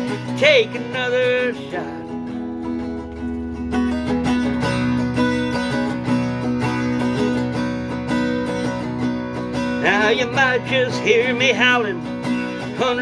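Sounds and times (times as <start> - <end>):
guitar strumming: 0.0 - 13.0.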